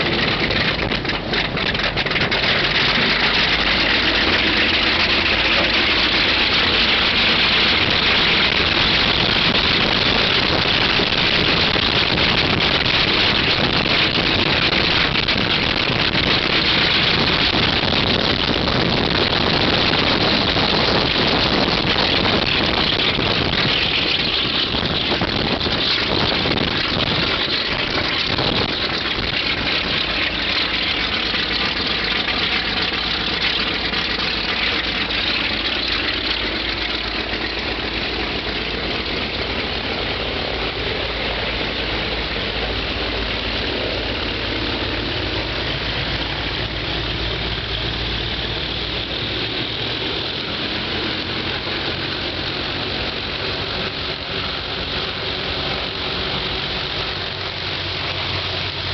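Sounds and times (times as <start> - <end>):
radial aircraft engine running: 0.0 - 58.9.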